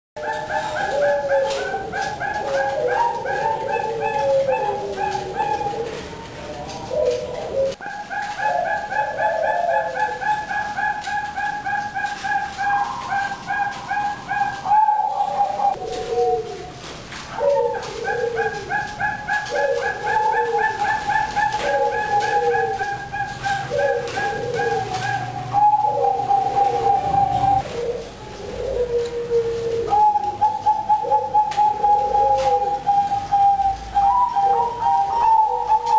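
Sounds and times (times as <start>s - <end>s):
dove cooing: 0.2s - 35.9s.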